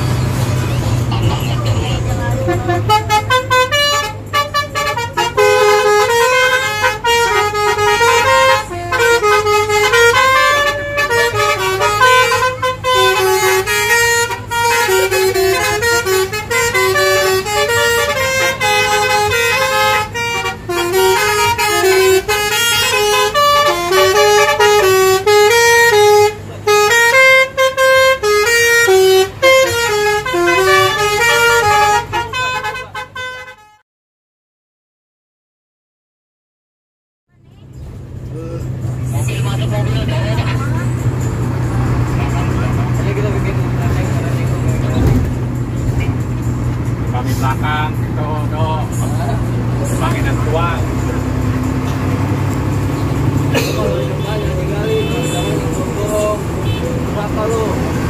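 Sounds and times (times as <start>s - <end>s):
low engine hum: 0.0s - 32.3s, 37.3s - 58.0s
multi-tone bus air horn melody: 0.2s - 33.8s, 38.6s - 58.0s.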